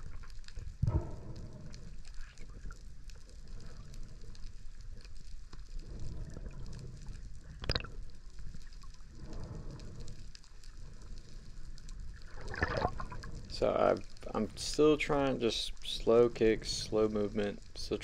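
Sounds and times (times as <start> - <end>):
low underwater rumble: 0.0 - 14.9
faint ticks: 0.0 - 18.0.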